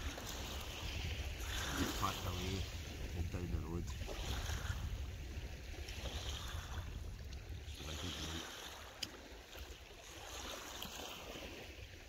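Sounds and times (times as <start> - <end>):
waves lapping on pebbles: 0.0 - 12.0
wind rumble on microphone: 0.0 - 12.0.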